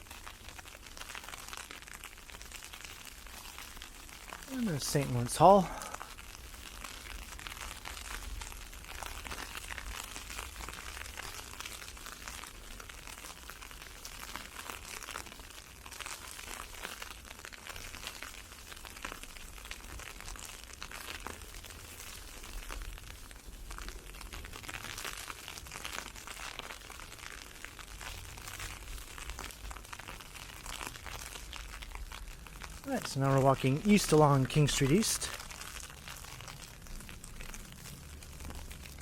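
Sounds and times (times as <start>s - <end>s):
ice pellets pattering on umbrella: 0.0s - 39.0s.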